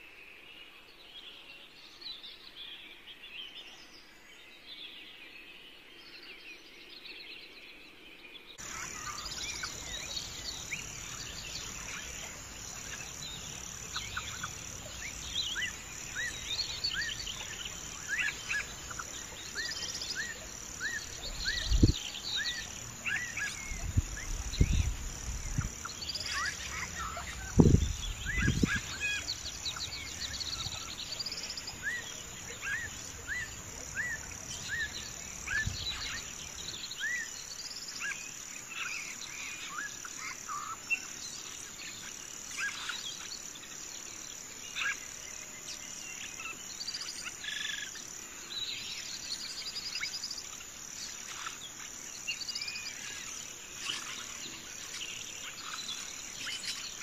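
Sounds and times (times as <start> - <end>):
birds chirping and trilling: 1.4 - 57.0
high insect drone: 8.6 - 57.0.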